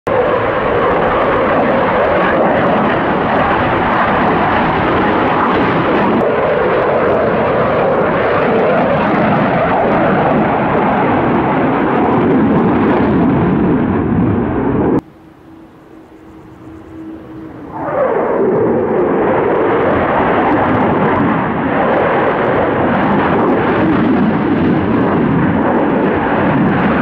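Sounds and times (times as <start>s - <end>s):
fighter jet roaring: 0.1s - 27.0s.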